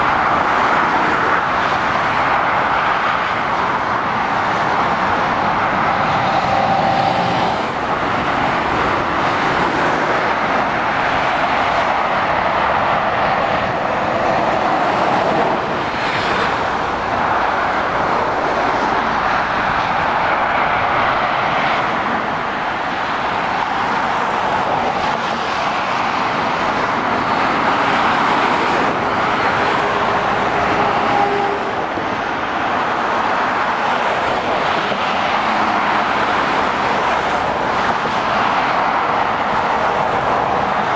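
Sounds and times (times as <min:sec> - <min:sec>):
motorway traffic passing: 0:00.0 - 0:40.9.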